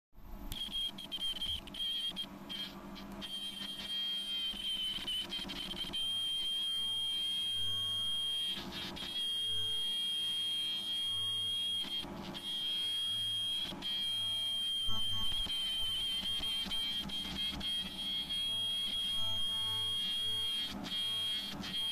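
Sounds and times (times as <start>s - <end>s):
sewing machine high-pitched whine: 0.6s - 21.9s.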